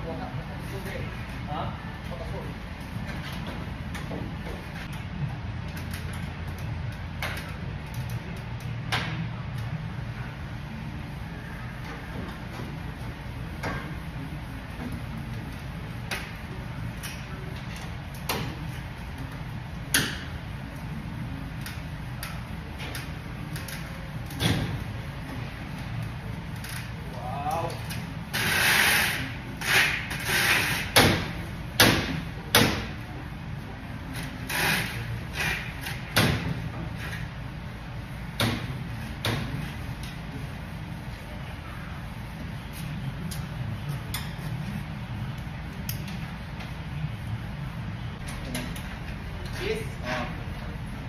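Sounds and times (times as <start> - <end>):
low shop hum: 0.0 - 51.0.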